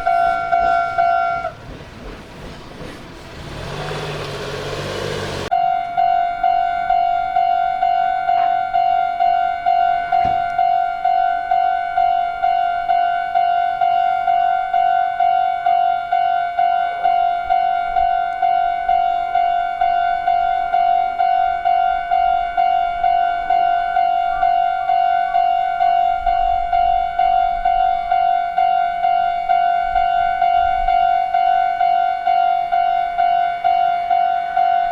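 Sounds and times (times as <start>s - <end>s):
level crossing warning bell: 0.0s - 1.8s, 5.4s - 34.9s.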